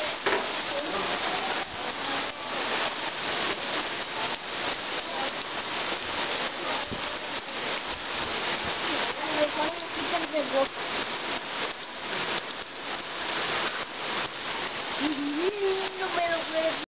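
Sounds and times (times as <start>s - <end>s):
rain on paving stones: 0.0s - 16.9s.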